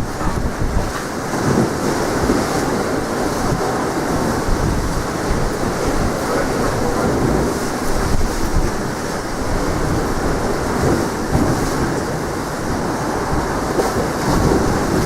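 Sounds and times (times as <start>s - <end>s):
sea waves rushing: 0.0s - 15.0s
wind buffeting microphone: 0.0s - 15.0s.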